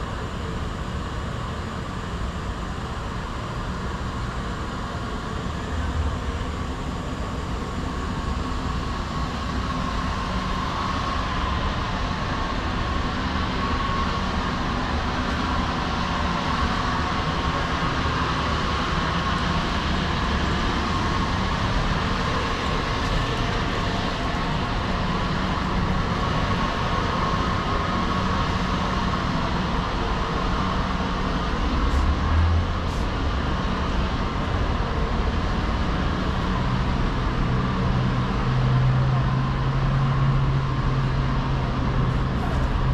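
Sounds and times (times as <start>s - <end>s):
city street traffic: 0.0s - 42.9s.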